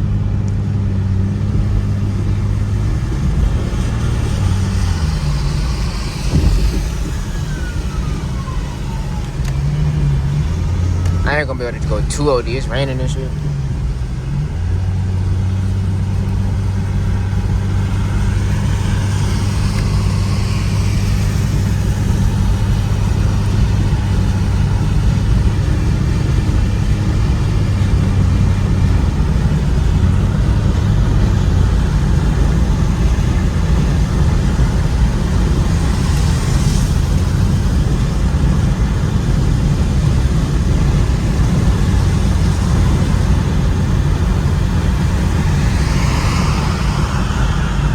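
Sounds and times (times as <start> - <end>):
car engine and tyre drone: 0.0 - 47.9.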